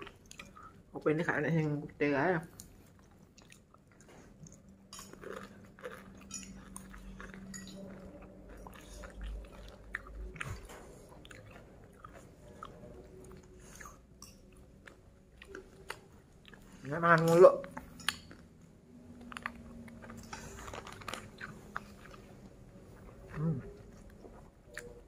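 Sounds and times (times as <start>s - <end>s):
person chewing food: 0.0s - 0.9s, 2.5s - 25.0s.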